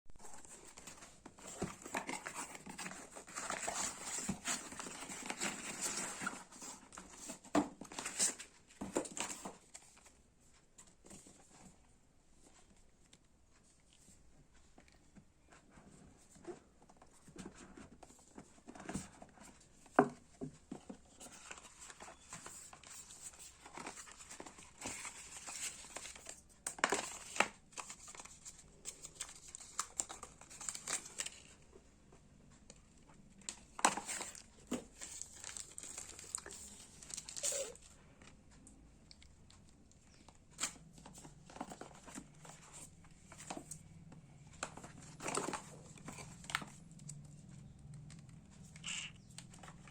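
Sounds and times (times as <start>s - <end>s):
plastic and paper crinkling: 0.2s - 10.1s, 15.7s - 31.6s, 32.7s - 38.4s, 39.1s - 47.5s.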